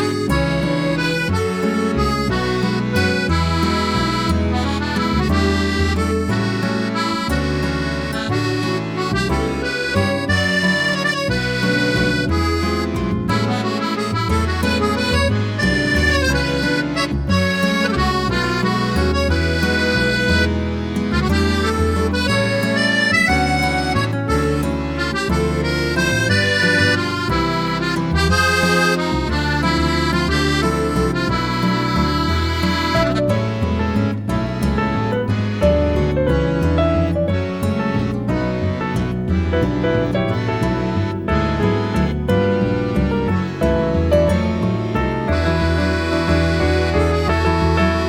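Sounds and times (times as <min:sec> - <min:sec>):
accordion-like melody: 0:00.0 - 0:48.0
moving bass line: 0:00.0 - 0:48.0.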